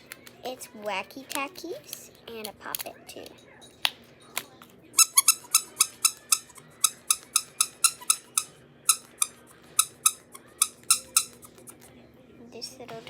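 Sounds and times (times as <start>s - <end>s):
plastic fidget toy popping: 1.2s - 11.8s.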